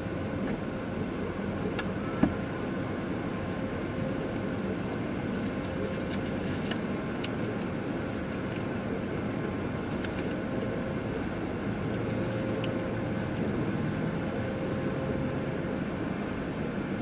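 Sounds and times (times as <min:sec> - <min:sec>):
car interior hum and rumble: 0:00.0 - 0:17.0.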